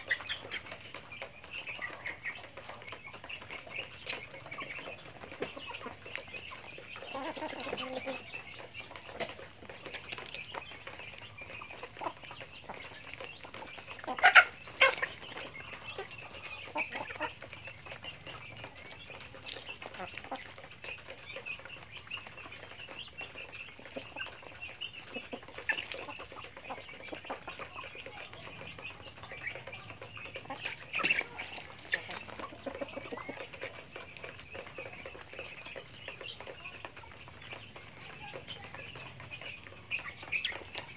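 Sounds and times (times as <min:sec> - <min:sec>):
chickens clucking: 0:00.0 - 0:40.9
steady high chatter: 0:00.0 - 0:40.9.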